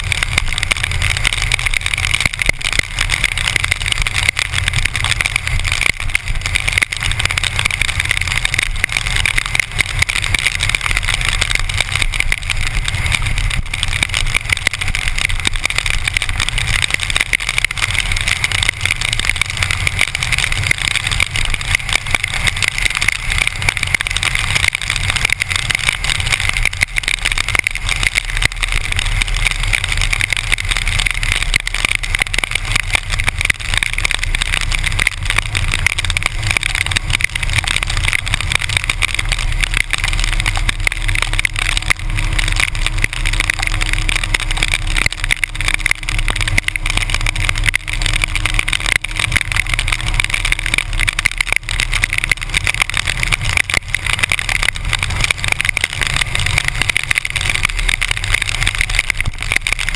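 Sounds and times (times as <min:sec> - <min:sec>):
motorcycle engine drone: 0:00.0 - 0:59.9
wet road noise: 0:00.0 - 0:59.9.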